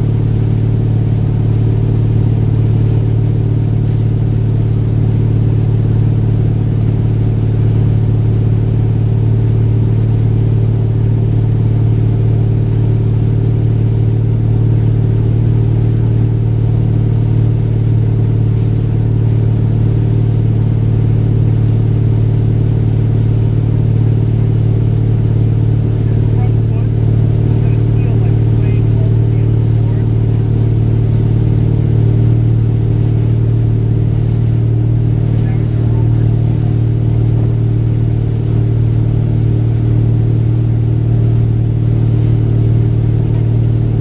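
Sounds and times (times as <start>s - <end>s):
boat engine humming: 0.0s - 44.0s.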